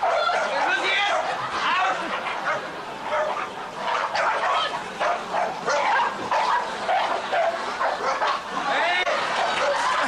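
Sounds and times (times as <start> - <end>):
small dogs barking: 0.0 - 10.0.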